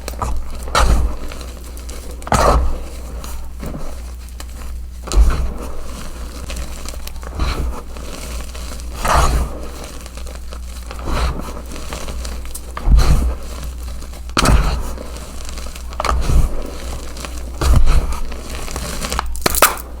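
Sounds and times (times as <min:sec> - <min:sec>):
chalk crunching: 0:00.0 - 0:20.0.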